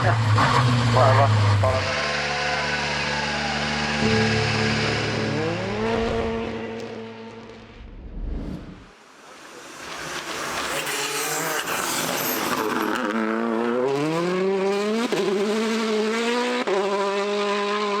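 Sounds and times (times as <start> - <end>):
car engine accelerating hard: 0.0 - 7.7, 9.8 - 18.0.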